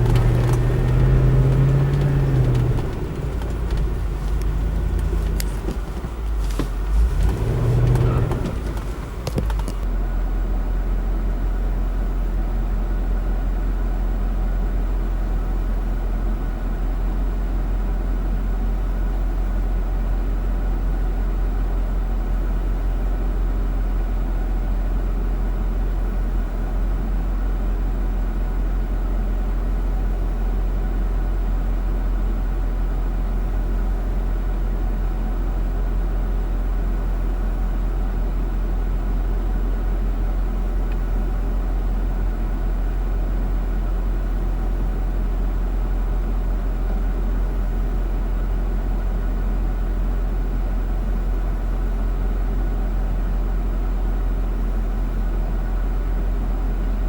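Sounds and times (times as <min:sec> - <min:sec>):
suv engine drone: 0:00.0 - 0:57.0.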